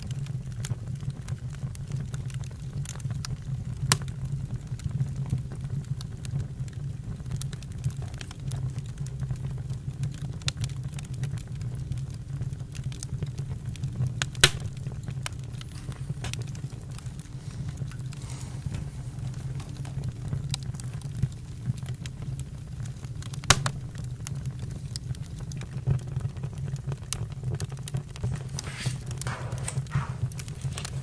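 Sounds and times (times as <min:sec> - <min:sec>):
campfire crackling and popping: 0:00.0 - 0:31.0
low fire rumble: 0:00.0 - 0:31.0.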